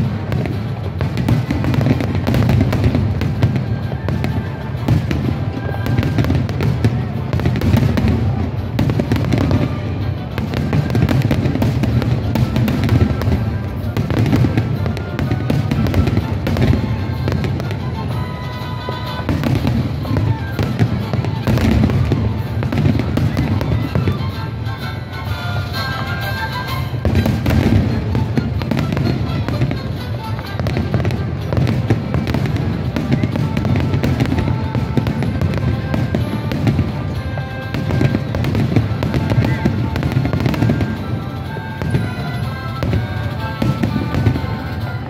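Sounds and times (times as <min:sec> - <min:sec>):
music playing: 0:00.0 - 0:45.0.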